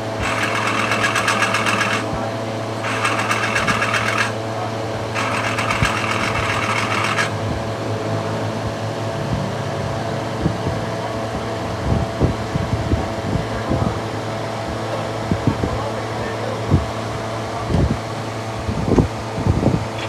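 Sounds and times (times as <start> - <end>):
machinery humming: 0.0 - 20.0
rapid rattling hiss: 0.0 - 20.0.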